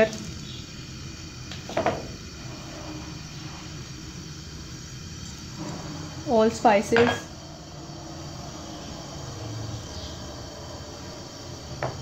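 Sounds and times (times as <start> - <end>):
faint steady background drone: 0.0 - 12.0.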